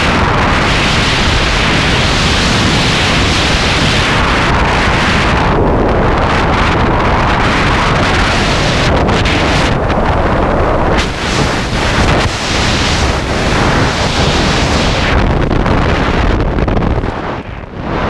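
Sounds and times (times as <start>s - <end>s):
wind roar on microphone: 0.0s - 18.0s.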